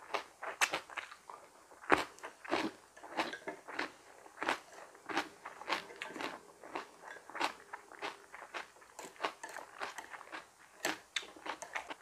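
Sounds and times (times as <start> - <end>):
chewing crunchy raw vegetables: 0.0 - 12.0.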